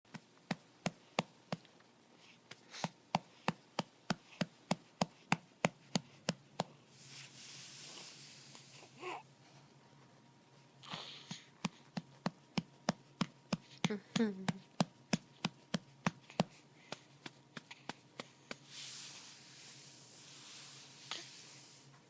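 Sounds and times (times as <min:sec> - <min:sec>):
soft hiss: 0:00.1 - 0:22.0.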